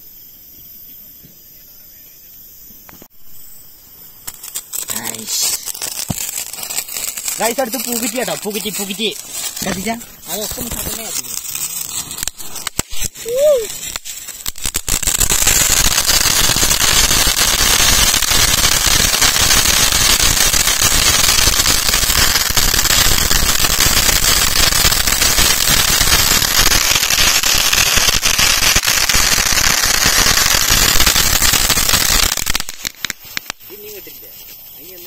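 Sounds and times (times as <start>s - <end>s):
firework fountain hissing and crackling: 0.0s - 35.0s.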